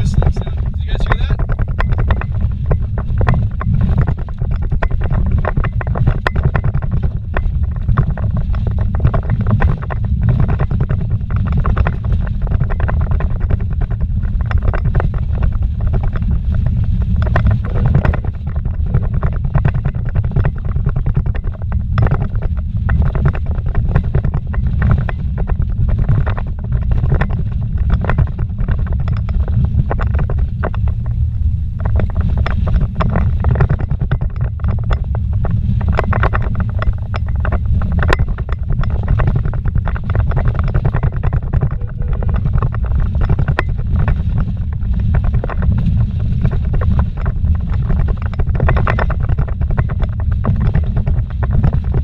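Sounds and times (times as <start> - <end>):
rattles and knocks: 0.0 - 52.0
vehicle engine and tyre rumble: 0.0 - 52.0.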